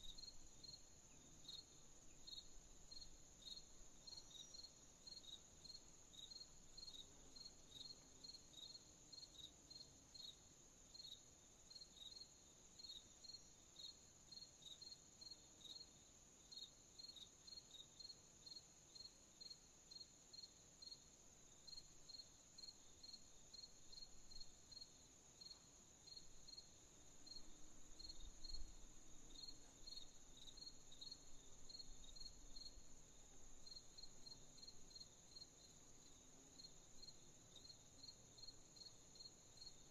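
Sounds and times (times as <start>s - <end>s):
insect trill: 0.0s - 15.9s, 16.5s - 39.9s
crickets chirping: 0.0s - 39.9s.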